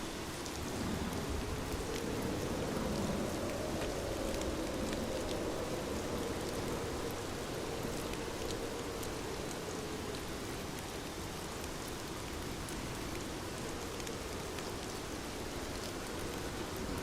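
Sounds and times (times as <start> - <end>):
light ticks of raindrops: 0.0 - 17.0
steady rainfall: 0.0 - 17.0.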